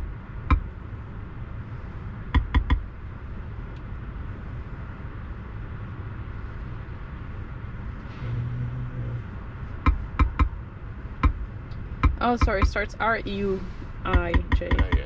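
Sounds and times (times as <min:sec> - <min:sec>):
low car cabin hum: 0:00.0 - 0:15.0.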